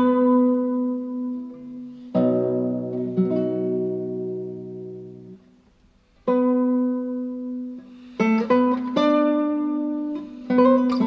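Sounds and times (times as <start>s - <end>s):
plucked guitar notes: 0.0s - 5.6s, 6.2s - 11.0s.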